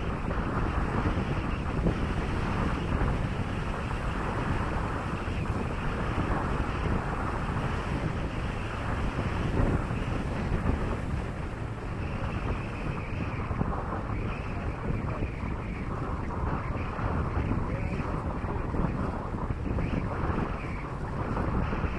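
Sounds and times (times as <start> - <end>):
water rushing along hull: 0.0 - 21.9
wind buffeting microphone: 0.0 - 21.9.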